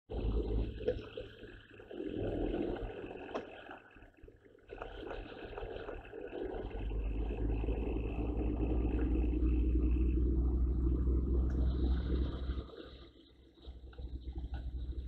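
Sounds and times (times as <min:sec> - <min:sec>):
low rumble inside lorry cab: 0:00.1 - 0:03.9, 0:04.8 - 0:15.0.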